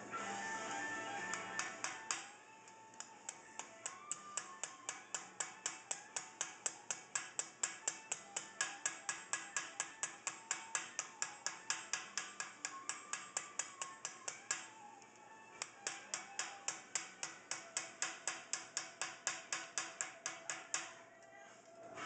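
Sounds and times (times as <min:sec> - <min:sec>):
hammer tapping sheet steel: 0:01.2 - 0:14.8, 0:15.6 - 0:21.0.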